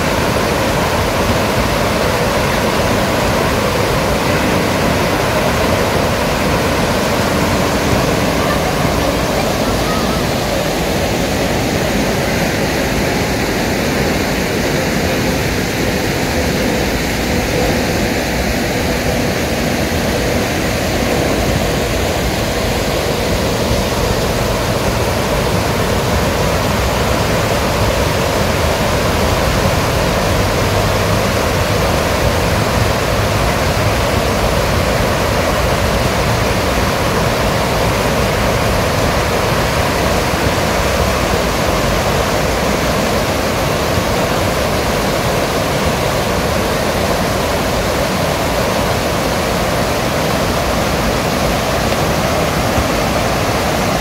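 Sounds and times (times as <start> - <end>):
stream water rushing and splashing: 0.0 - 54.0.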